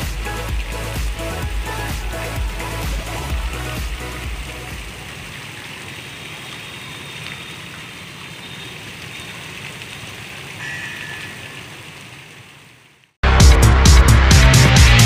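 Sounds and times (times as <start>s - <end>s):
fountain jets splashing: 0.0s - 13.2s.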